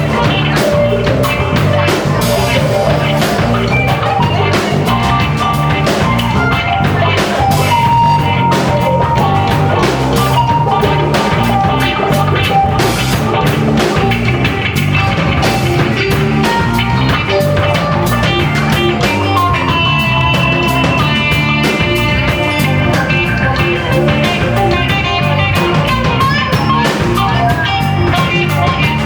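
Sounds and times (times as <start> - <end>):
rock band playing instrumental: 0.0 - 29.0.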